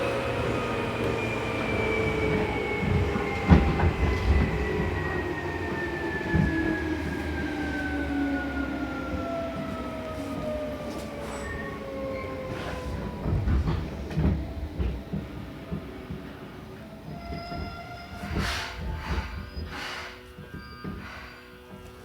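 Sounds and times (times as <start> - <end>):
low train rumble: 0.0 - 22.0
train motors whining: 0.0 - 22.0.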